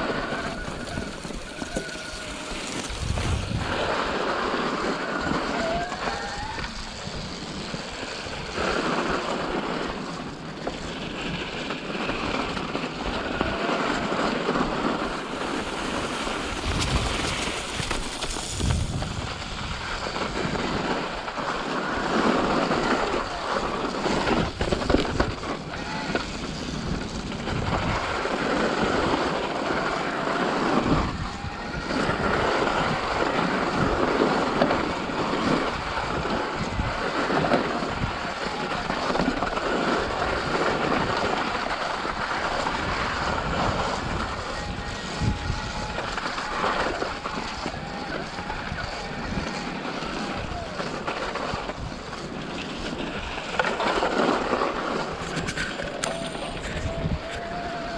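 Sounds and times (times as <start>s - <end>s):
bicycle tyre noise on trail: 0.0s - 57.9s
wind rushing over microphone: 0.0s - 57.9s.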